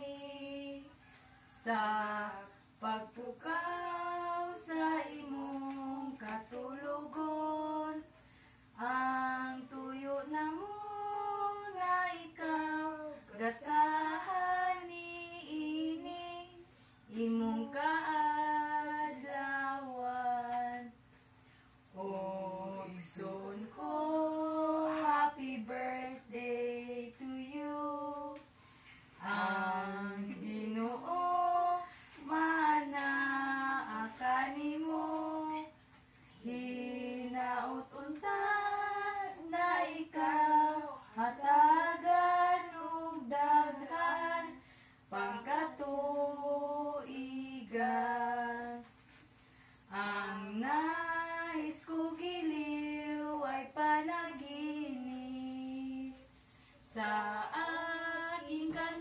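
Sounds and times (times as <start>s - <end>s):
women and girl singing: 0.0s - 59.0s.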